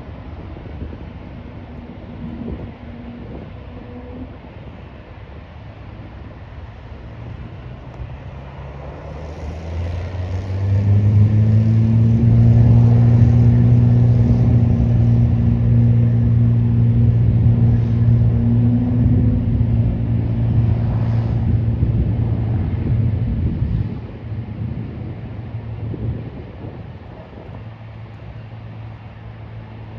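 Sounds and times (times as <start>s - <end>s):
jet engines at takeoff: 0.0s - 29.9s.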